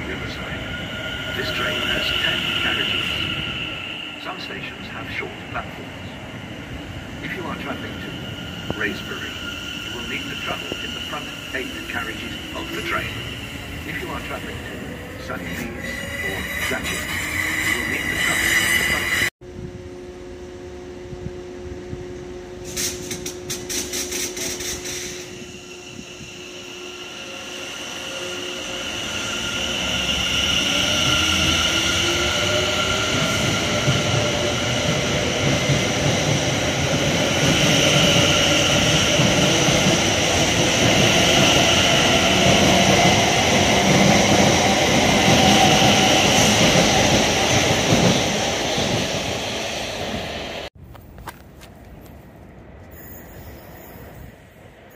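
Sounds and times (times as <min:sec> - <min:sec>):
train carriages rolling rush: 0:00.0 - 0:19.3, 0:22.6 - 0:54.9
train hum: 0:00.0 - 0:54.9.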